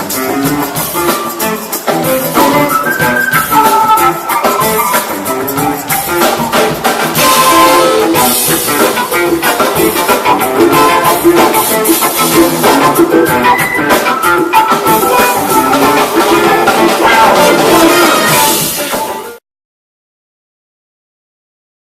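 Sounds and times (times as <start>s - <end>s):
brass horn section: 0.0s - 19.4s
drum kit: 0.0s - 19.4s
electric guitar: 0.0s - 19.4s.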